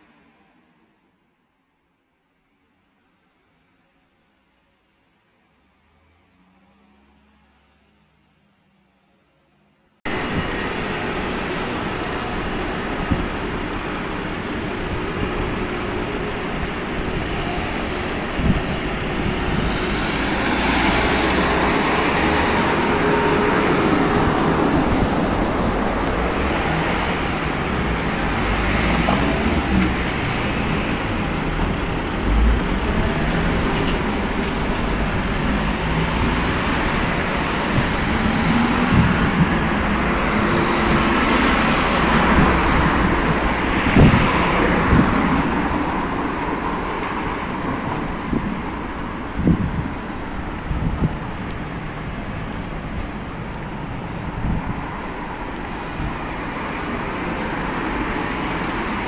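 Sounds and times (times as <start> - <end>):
city street traffic: 2.6 - 59.0
vehicles passing: 10.1 - 59.0.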